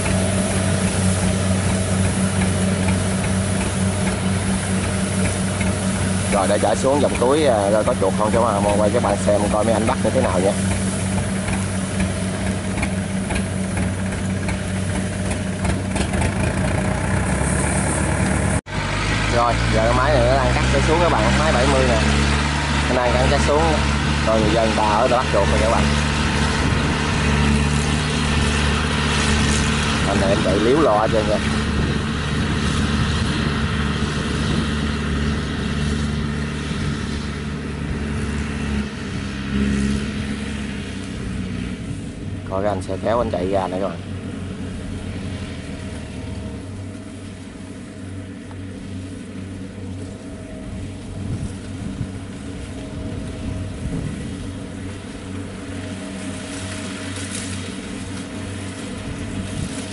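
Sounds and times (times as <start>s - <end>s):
combine harvester engine running: 0.0s - 59.9s.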